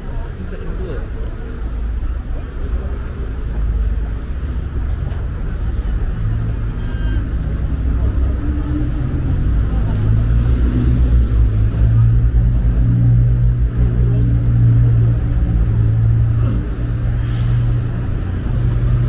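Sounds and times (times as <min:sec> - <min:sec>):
low rumble of motor traffic: 0:00.0 - 0:19.0.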